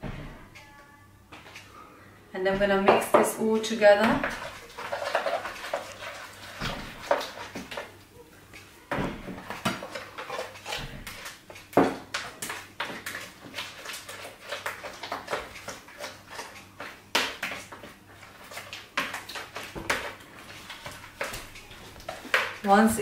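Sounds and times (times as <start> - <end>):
utensil stirring wet marinade: 2.6 - 23.0.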